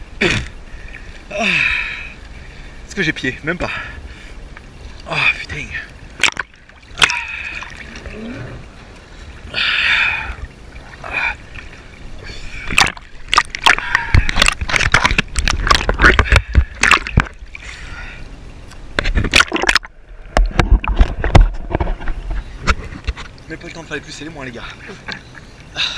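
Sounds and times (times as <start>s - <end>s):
sharp crackling splashes: 0.0s - 24.2s
sea water splashing: 0.0s - 25.9s.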